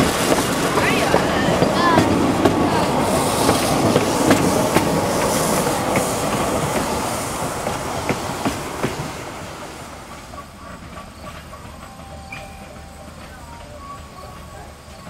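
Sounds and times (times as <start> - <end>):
wheels clicking over rail joints: 0.0 - 9.2, 10.0 - 15.0
train cars rolling on rails: 0.0 - 15.0.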